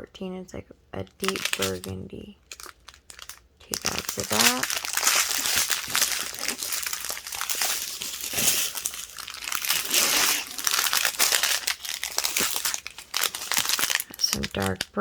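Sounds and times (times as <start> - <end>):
plastic bags crinkling: 1.0 - 15.0.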